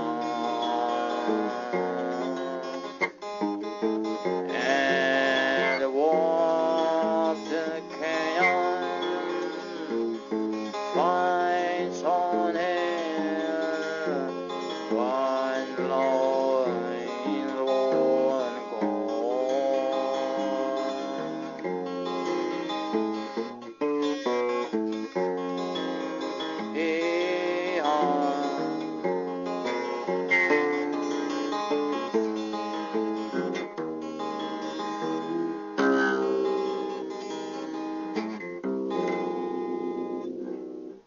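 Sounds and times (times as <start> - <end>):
acoustic guitar music: 0.0 - 41.0.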